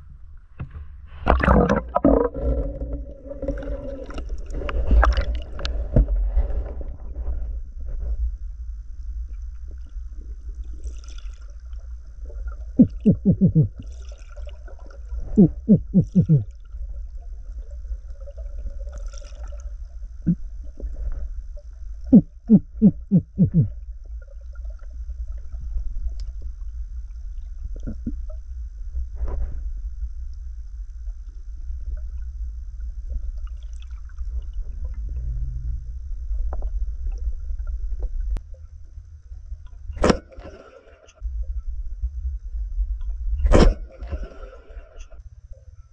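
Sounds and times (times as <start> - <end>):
underwater low rumble: 0.0 - 45.9.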